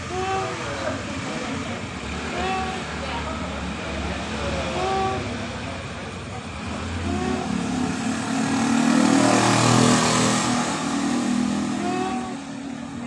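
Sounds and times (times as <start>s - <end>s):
motor vehicle passing by: 0.0s - 13.0s.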